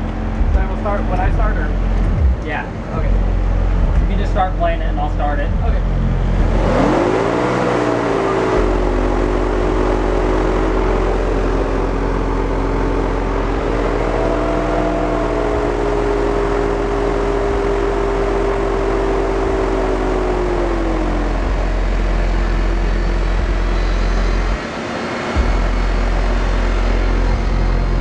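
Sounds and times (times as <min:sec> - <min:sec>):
deep buzzing subwoofer bass note: 0:00.0 - 0:24.8, 0:25.4 - 0:28.0.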